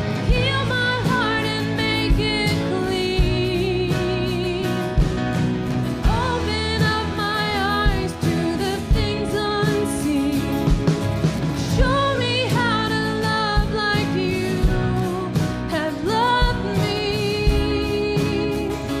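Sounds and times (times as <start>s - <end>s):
woman singing with vibrato: 0.0s - 5.1s, 6.0s - 10.9s, 11.6s - 19.0s
guitars and keyboard chords: 0.0s - 19.0s
steady drum beat: 0.0s - 19.0s.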